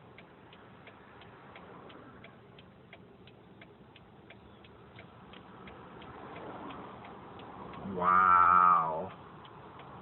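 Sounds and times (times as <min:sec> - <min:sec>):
car turn signal ticking: 0:00.0 - 0:10.0
faint car engine hum: 0:00.0 - 0:10.0.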